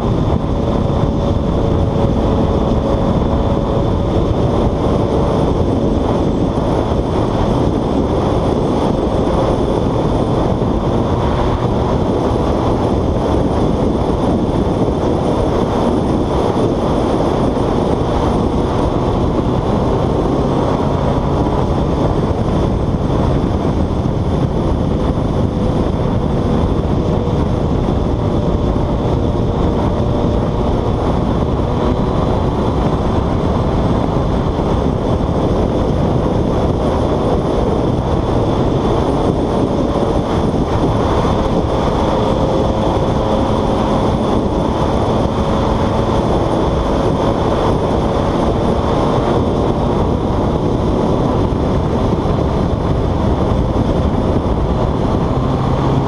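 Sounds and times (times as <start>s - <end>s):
motorcycle engine hum: 0.0s - 56.0s
wind rushing on helmet: 0.0s - 56.0s.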